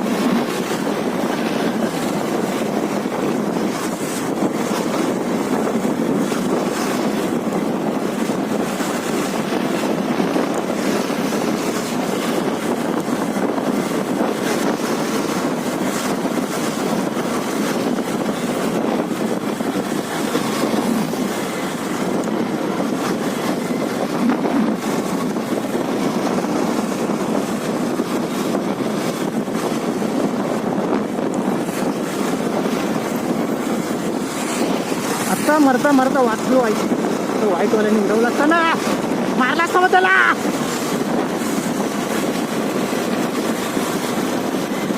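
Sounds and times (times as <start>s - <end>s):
motorcycle road and engine noise: 0.0s - 44.9s
wind rush on microphone: 0.0s - 44.9s.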